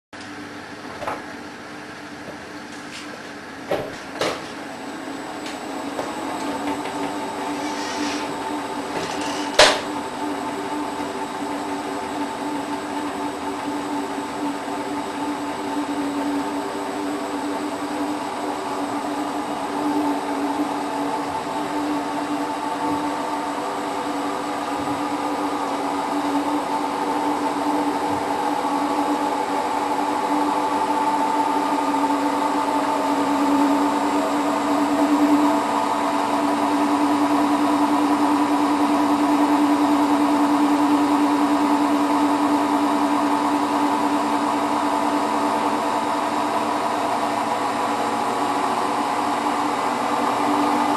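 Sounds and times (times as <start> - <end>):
washing machine spinning: 0.2 - 50.9.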